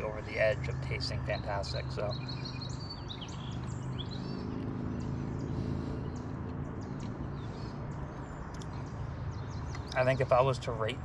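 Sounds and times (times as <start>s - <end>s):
low outdoor hum: 0.0s - 11.0s
songbirds chirping and singing: 0.0s - 11.0s.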